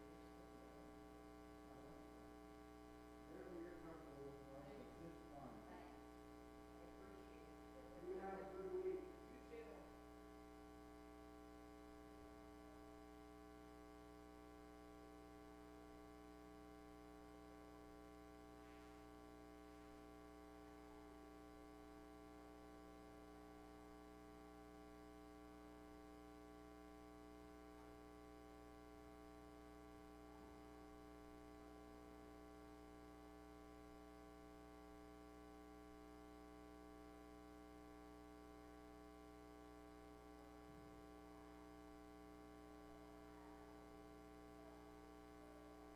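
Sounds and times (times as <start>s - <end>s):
faint electrical hum: 0.0s - 45.9s.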